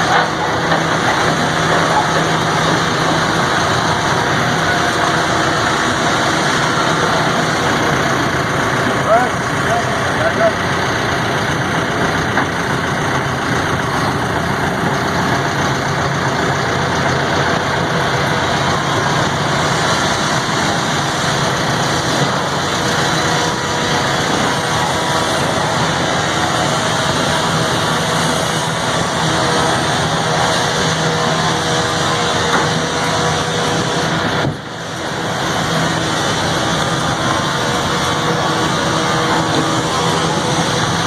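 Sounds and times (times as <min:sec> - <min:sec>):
heavy machinery engine running: 0:00.0 - 0:41.0.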